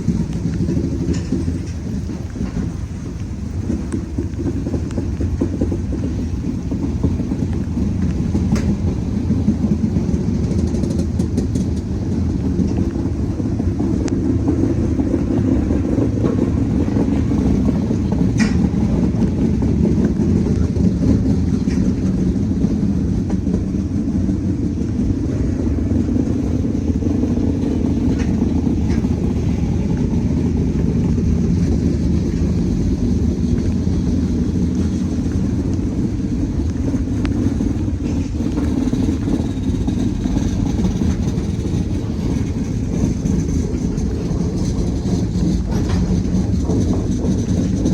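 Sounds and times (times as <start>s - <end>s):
diesel locomotives rumbling: 0.0s - 47.9s.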